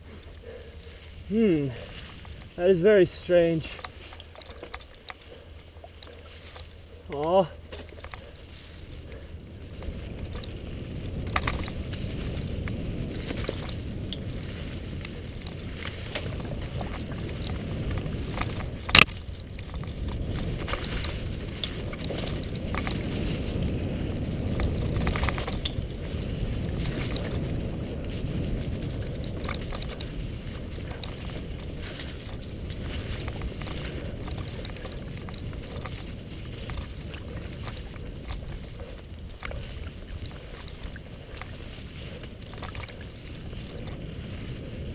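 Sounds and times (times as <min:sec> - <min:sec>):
bike rattles and clicks: 0:00.0 - 0:44.9
bike tyres rumbling on dirt: 0:00.0 - 0:44.9.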